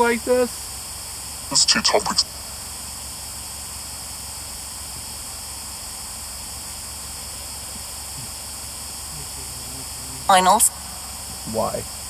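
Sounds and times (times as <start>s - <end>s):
low hum: 0.0s - 12.0s
steady hiss: 0.0s - 12.0s.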